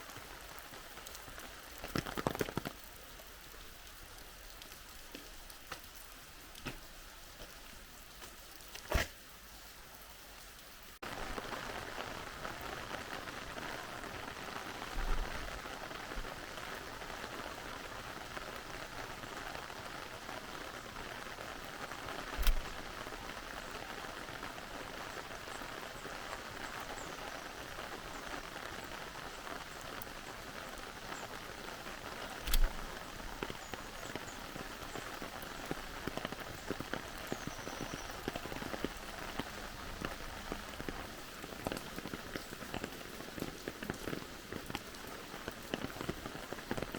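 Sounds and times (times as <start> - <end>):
steady rain patter: 0.0 - 46.9.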